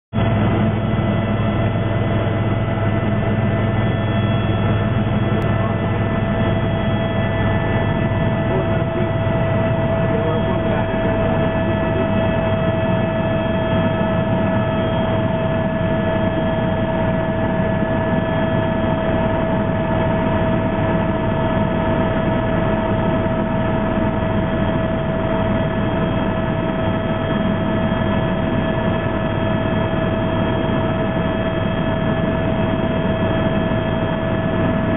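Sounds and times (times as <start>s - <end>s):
constant whine: 0.1s - 34.9s
helicopter engine and rotor drone: 0.1s - 34.9s.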